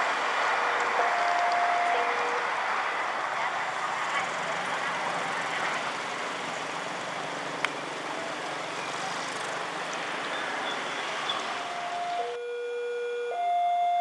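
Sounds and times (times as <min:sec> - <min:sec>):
vehicle passing close by: 0:00.0 - 0:12.4.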